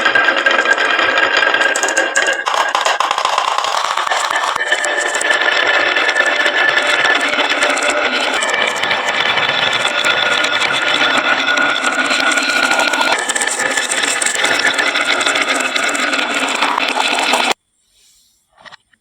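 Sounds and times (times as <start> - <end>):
marbles rattling down wooden run: 0.0 - 17.6.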